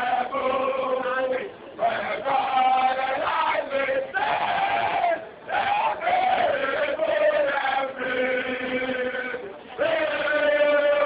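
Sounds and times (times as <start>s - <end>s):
young men chanting in unison: 0.0s - 11.0s.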